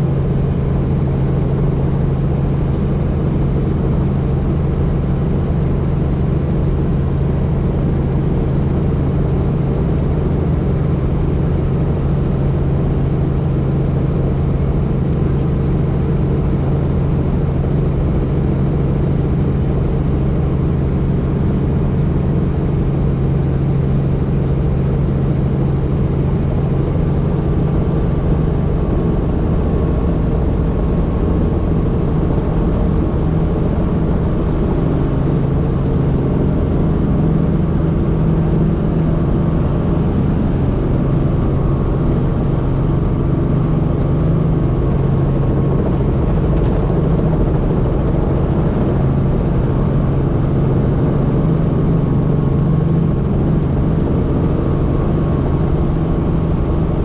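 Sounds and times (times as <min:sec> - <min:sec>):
helicopter rotor and turbine drone: 0:00.0 - 0:57.0.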